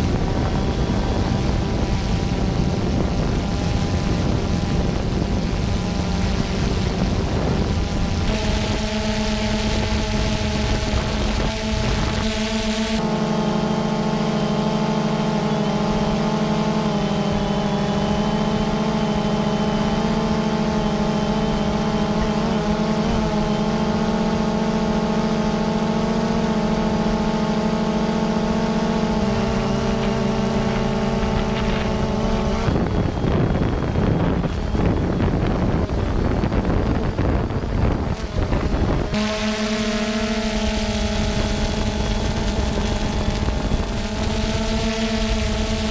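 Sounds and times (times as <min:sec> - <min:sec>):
drone rotors humming: 0:00.0 - 0:45.9
rough fluttering rushing noise: 0:00.0 - 0:45.9.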